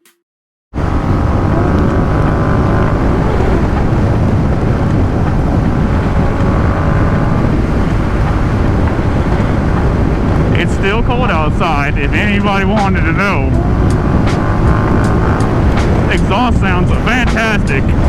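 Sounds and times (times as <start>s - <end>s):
motorcycle engine running: 0.8s - 18.0s
wind buffeting microphone: 0.8s - 18.0s.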